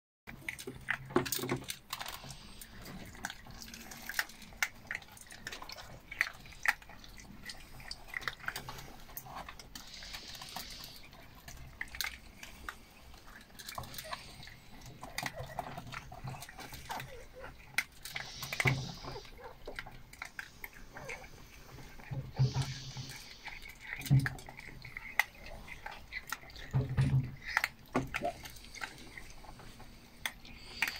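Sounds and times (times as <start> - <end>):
kibble clicking on metal bowl: 0.3 - 30.9
puppies crunching kibble: 0.3 - 30.9.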